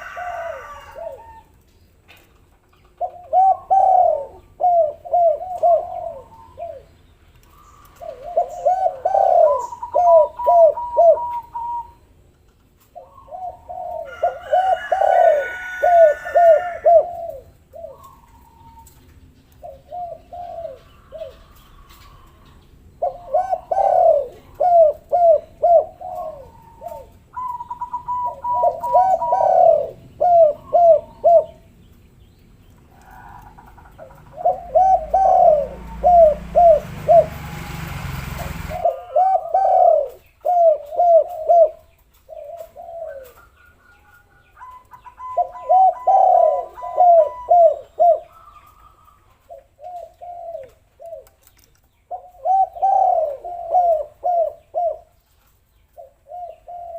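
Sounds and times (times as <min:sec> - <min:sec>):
doves cooing: 0:00.0 - 0:31.8, 0:32.7 - 0:56.9.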